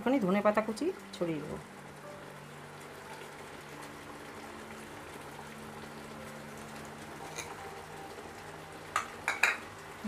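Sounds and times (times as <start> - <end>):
curry bubbling in a pan: 0.1 - 10.0.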